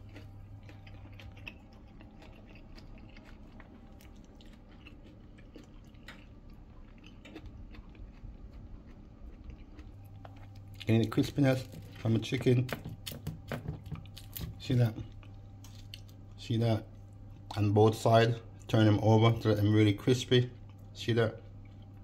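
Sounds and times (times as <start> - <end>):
person chewing crispy food: 0.0 - 17.6.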